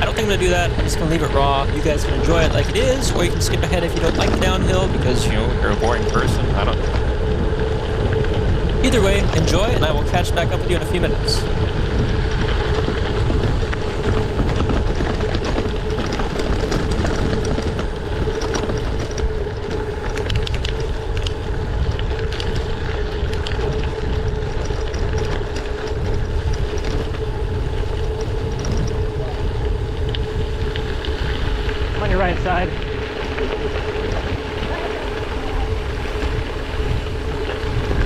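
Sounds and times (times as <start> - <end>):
bike clicks and rattles: 0.0 - 38.0
steady hum: 0.0 - 38.0
tyres rumbling over gravel: 0.0 - 38.0
wind rushing over microphone: 0.0 - 38.0.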